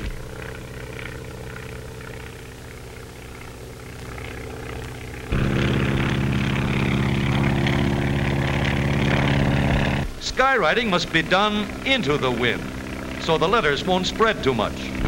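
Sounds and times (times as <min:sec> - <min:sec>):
biplane propeller engine droning: 0:00.0 - 0:15.0.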